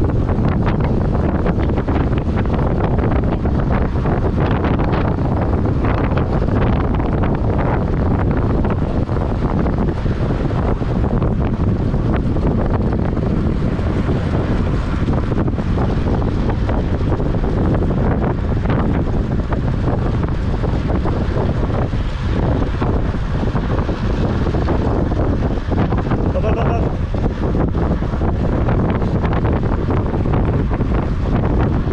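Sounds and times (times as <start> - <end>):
wind rushing on microphone: 0.0 - 31.9.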